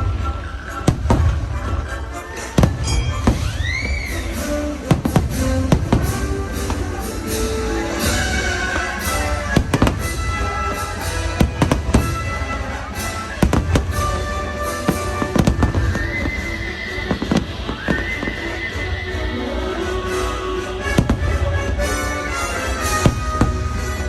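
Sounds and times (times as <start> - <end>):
fireworks bangs and crackles: 0.0 - 24.0
loud music: 0.0 - 24.0.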